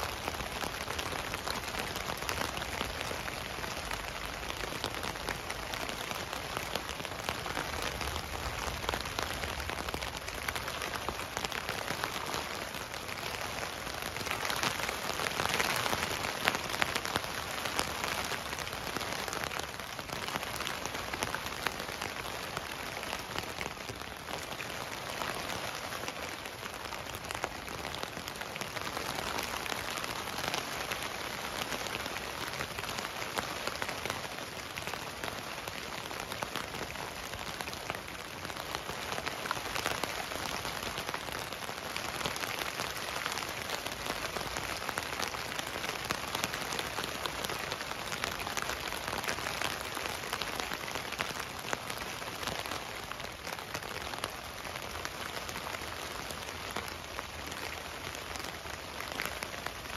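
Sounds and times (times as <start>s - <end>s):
rain pattering on a tent: 0.0s - 59.9s.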